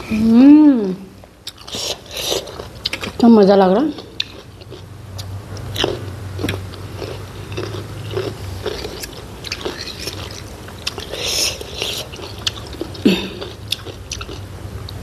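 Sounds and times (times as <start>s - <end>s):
person chewing food: 0.8s - 3.2s, 3.9s - 15.0s.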